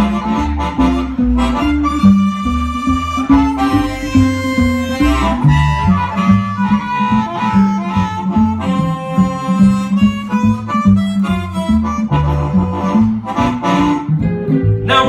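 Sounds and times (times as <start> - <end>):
bass line: 0.0 - 15.0
blues harmonica solo: 0.0 - 15.0
guitar: 0.0 - 15.0.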